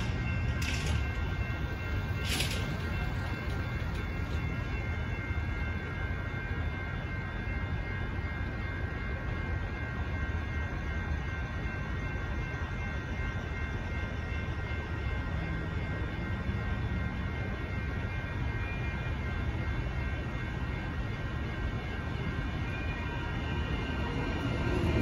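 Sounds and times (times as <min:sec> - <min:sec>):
railroad crossing bells ringing: 0:00.0 - 0:25.0.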